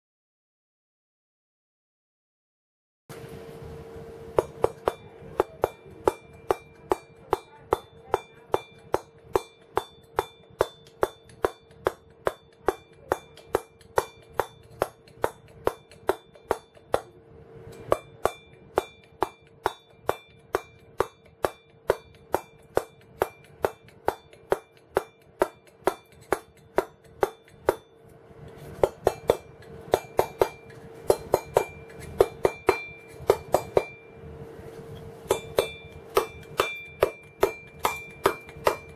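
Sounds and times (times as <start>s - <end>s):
mallet striking chisel into stone: 4.4s - 28.0s, 28.6s - 34.1s, 35.2s - 38.9s.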